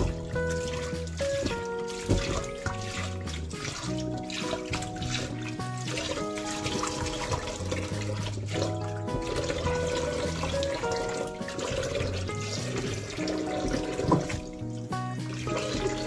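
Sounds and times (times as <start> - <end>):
background music with held notes: 0.0 - 16.0
hands swishing water: 0.0 - 16.0
tap running into bowl: 0.0 - 16.0.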